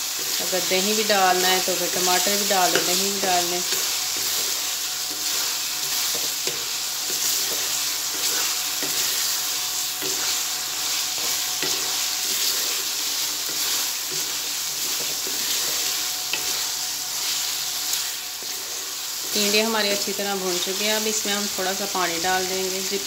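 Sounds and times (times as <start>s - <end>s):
spatula scraping metal wok: 0.0s - 22.3s
vegetables sizzling in oil: 0.0s - 23.0s.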